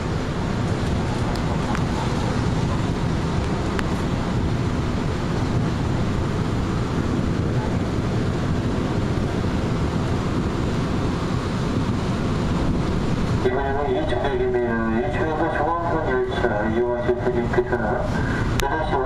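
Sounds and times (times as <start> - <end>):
train rumbling at speed: 0.0 - 19.0.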